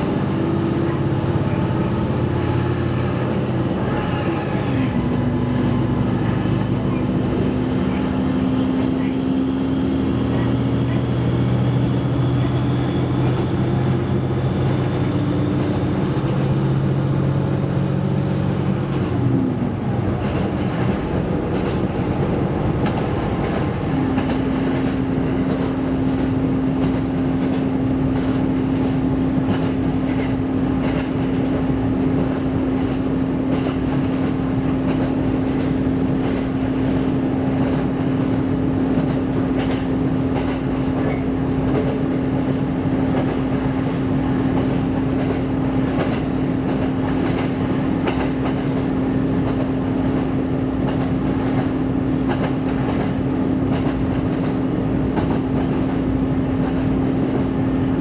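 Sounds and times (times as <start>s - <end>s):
railcar drive hum and whine: 0.0s - 58.0s
train wheels rumbling on rail: 0.0s - 58.0s.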